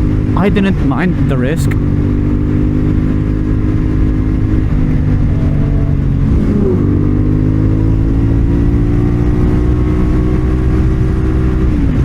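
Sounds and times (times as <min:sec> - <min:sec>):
motorcycle engine running: 0:00.0 - 0:12.0
wind and road rush: 0:00.0 - 0:12.0.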